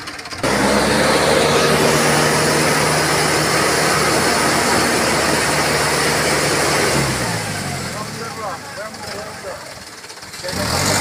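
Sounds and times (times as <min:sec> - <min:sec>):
diesel truck engine high revs: 0:00.0 - 0:11.0.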